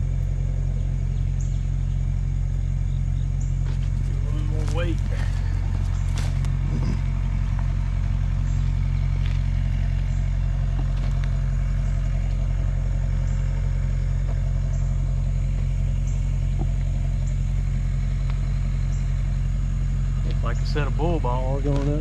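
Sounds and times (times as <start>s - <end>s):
motor engine idling: 0.0s - 22.0s.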